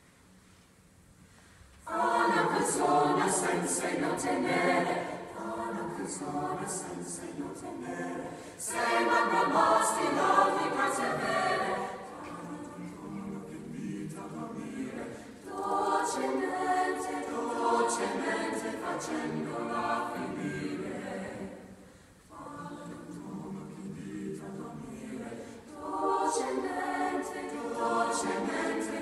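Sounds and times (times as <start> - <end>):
mixed choir singing: 1.8 - 29.0.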